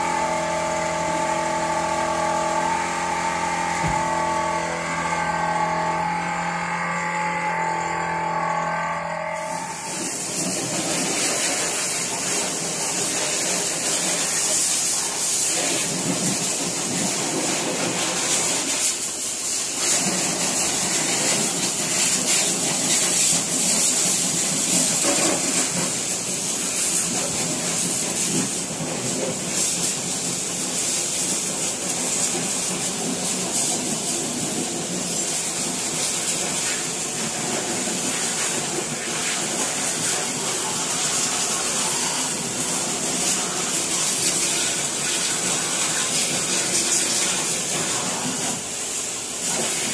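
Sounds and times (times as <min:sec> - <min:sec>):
spray gun hissing: 0:00.0 - 0:06.7, 0:09.3 - 0:49.9.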